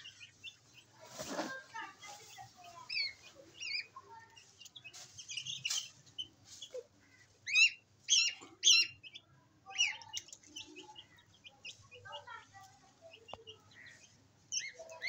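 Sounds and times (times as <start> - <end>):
goslings peeping: 0.0 - 1.0, 2.3 - 12.4, 13.1 - 15.0.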